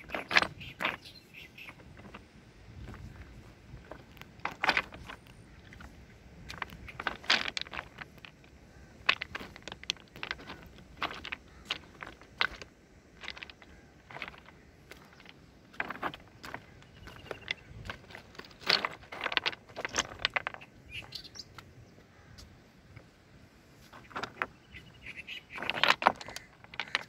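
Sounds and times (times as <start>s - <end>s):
footsteps on river stones: 0.0s - 27.0s.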